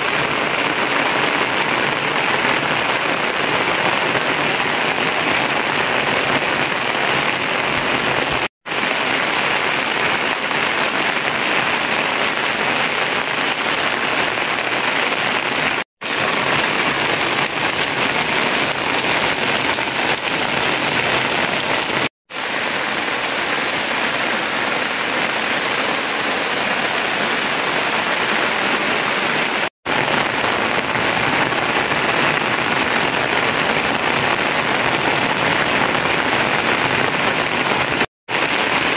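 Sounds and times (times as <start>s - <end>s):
steady rain pouring: 0.0s - 38.9s.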